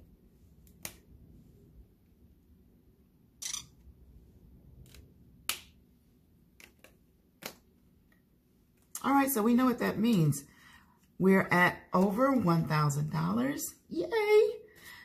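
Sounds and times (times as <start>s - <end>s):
faint low room hum: 0.0s - 15.0s.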